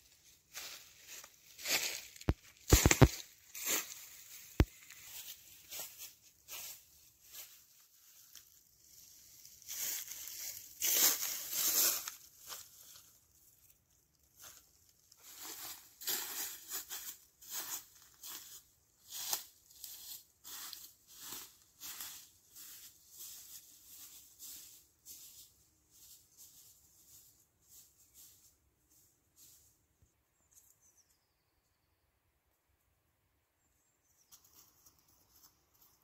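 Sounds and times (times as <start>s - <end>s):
footsteps in dry leaves: 0.0s - 29.8s.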